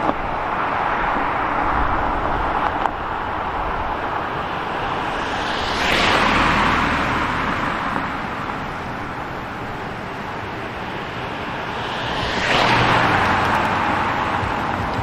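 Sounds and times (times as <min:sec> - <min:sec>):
background traffic: 0:00.0 - 0:15.0
car passing close by: 0:00.0 - 0:15.0.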